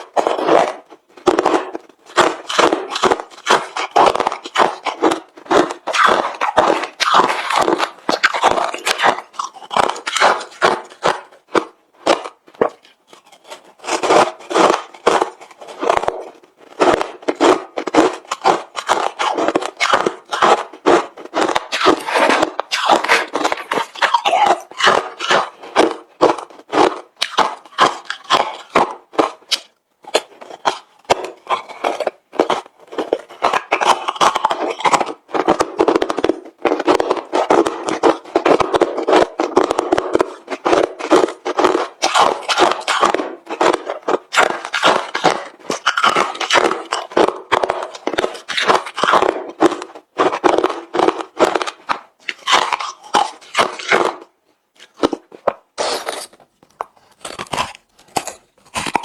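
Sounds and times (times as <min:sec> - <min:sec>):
crushed ice being chewed: 0:00.0 - 0:59.0.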